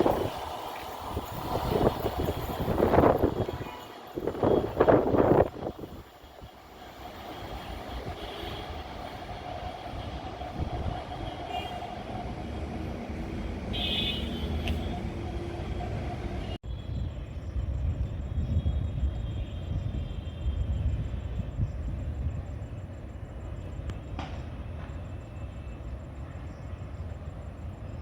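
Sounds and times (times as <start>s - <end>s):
electric train rumbling on rails: 0.0s - 28.0s.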